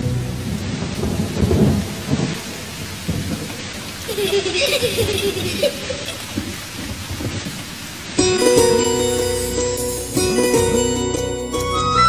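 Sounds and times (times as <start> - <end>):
thunder rumbling: 0.0 - 10.2
steady rain: 0.0 - 12.0.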